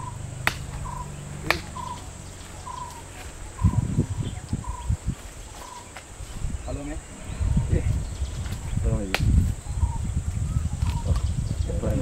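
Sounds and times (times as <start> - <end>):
low thuds: 0.0 - 11.9.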